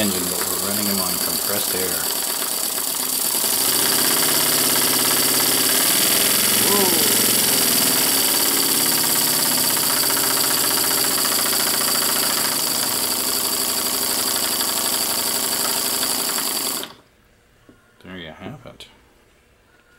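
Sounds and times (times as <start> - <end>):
model steam engine chuffing: 0.0 - 17.0.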